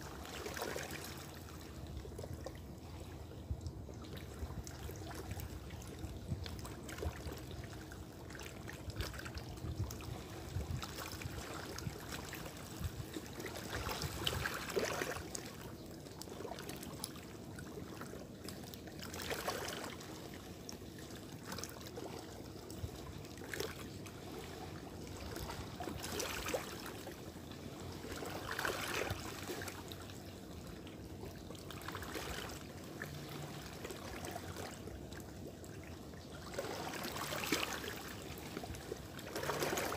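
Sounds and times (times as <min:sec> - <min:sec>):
waves lapping against rocks: 0:00.0 - 0:39.9.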